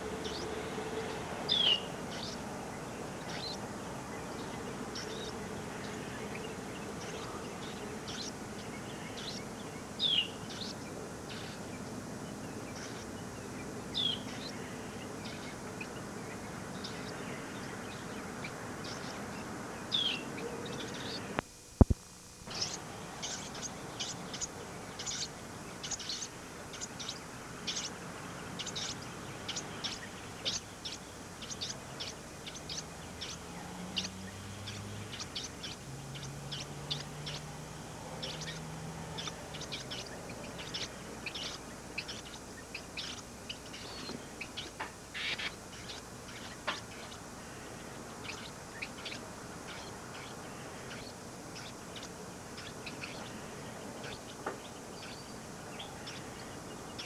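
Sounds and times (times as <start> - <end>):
baby birds chirping: 0.0 - 21.9, 22.5 - 57.0
faint low hum: 0.0 - 57.0.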